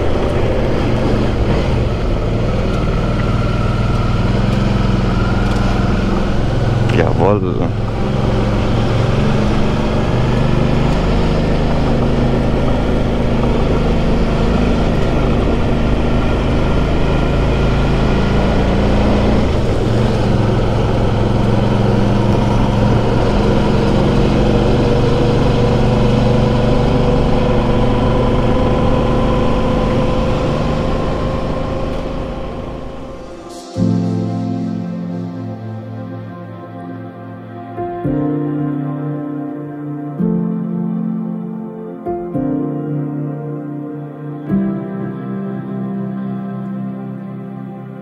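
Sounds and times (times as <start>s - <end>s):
motorcycle engine cruising: 0.0s - 41.5s
wind and road noise: 0.0s - 48.0s.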